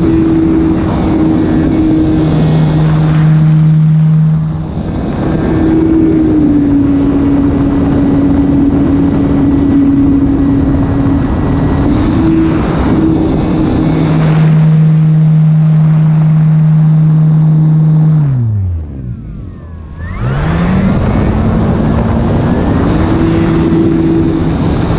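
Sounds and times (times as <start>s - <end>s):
electric motor and propeller buzzing: 0.0s - 24.9s
wind noise: 0.0s - 24.9s.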